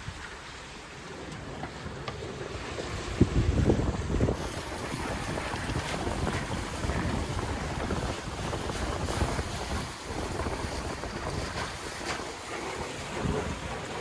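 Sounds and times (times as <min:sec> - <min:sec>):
waves splashing against hull: 0:00.0 - 0:14.0
wind buffeting microphone: 0:00.0 - 0:14.0.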